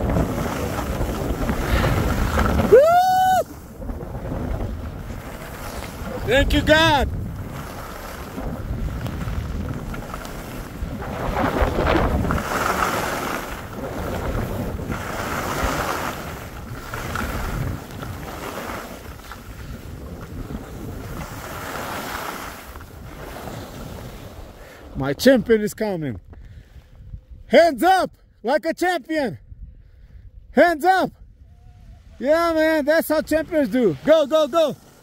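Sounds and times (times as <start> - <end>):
wind buffeting microphone: 0.0 - 25.5, 26.2 - 27.5, 29.4 - 30.5, 31.2 - 34.0.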